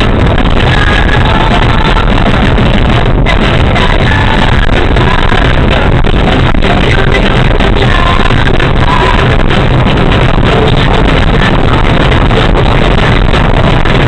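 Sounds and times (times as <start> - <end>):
music with singing in a car: 0.0 - 14.0
road noise: 0.0 - 14.0.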